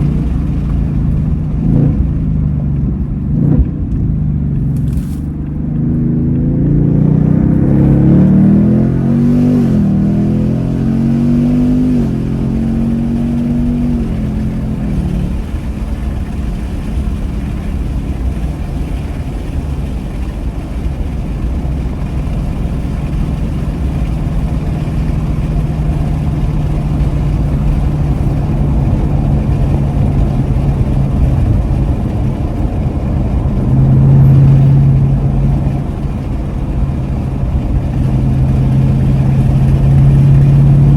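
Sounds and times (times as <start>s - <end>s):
car engine accelerating and shifting: 0.0s - 40.9s
road noise: 0.0s - 40.9s.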